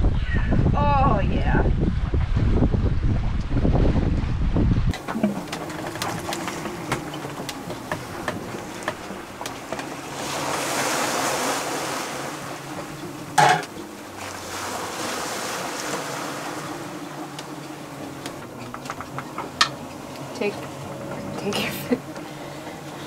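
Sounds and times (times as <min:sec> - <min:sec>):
water rushing along boat hull: 0:00.0 - 0:23.0.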